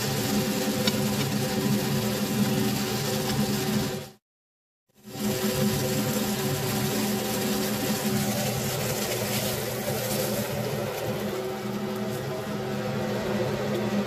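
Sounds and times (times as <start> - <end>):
steak sizzling in frying pan: 0.0 - 4.2, 5.0 - 12.6.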